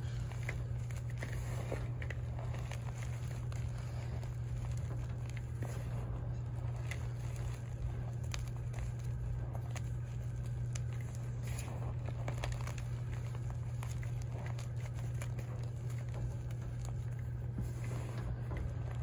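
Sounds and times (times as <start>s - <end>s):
chalk crumbling in hands: 0.0s - 19.0s
steady low hum: 0.0s - 19.0s.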